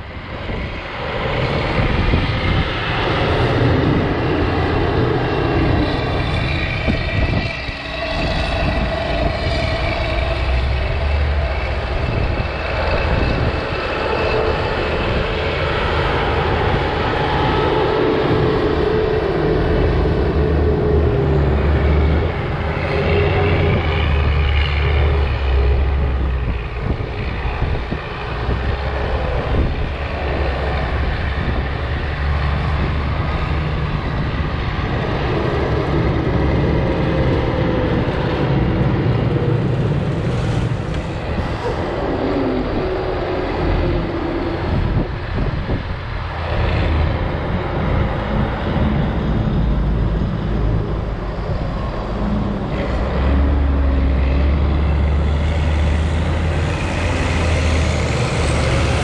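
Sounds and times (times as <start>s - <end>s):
diesel engines working under load: 0.0s - 59.0s.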